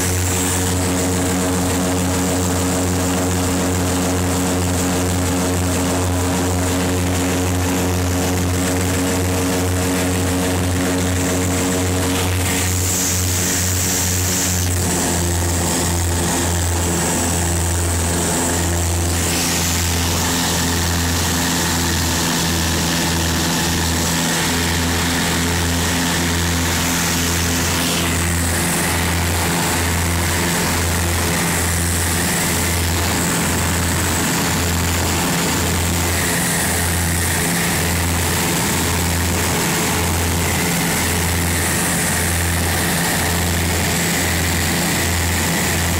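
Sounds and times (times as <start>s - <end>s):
propeller engines droning: 0.0s - 45.9s.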